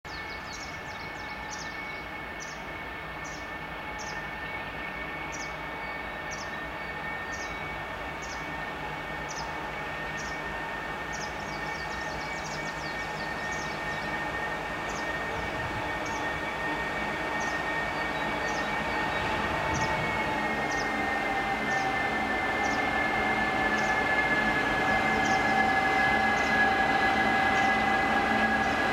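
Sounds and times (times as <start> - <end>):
diesel locomotive running: 0.0 - 28.9
steady high whine: 0.1 - 28.9.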